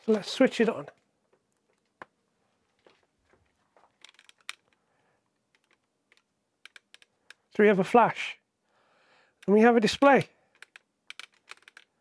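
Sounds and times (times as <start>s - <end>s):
small clicks and rustles: 0.0s - 7.5s, 9.4s - 12.0s.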